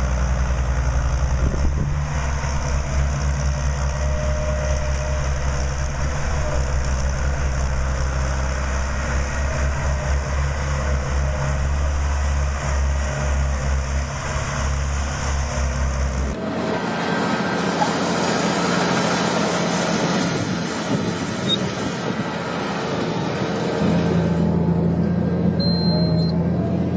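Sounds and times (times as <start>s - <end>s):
heavy machinery engine humming: 0.0s - 26.9s.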